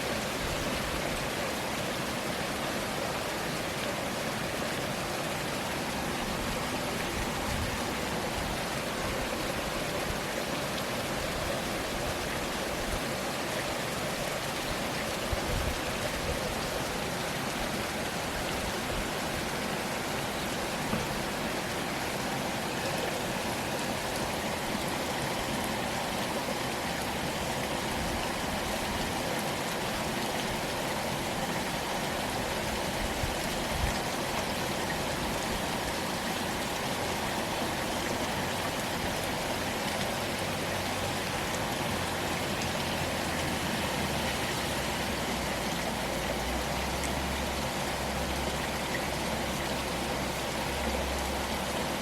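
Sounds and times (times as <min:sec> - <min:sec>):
heavy rain pattering: 0:00.0 - 0:52.0
runoff water flowing: 0:00.0 - 0:52.0.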